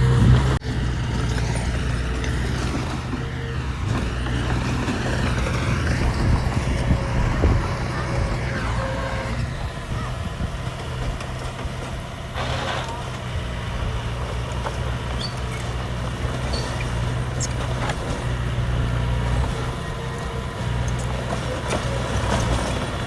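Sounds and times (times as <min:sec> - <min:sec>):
diesel machinery engine drone: 0:00.0 - 0:23.0.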